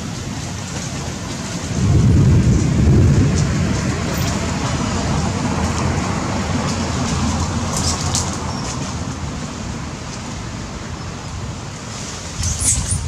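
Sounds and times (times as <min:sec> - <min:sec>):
low rumbling noise: 0:01.6 - 0:13.0.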